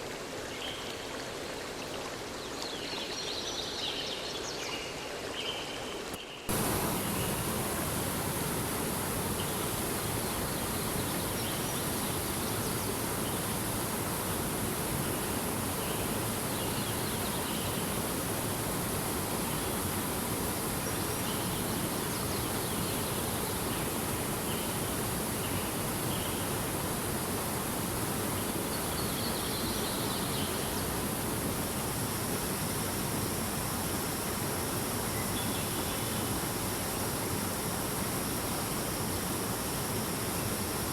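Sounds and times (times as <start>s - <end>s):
river water rushing: 5.2s - 40.9s.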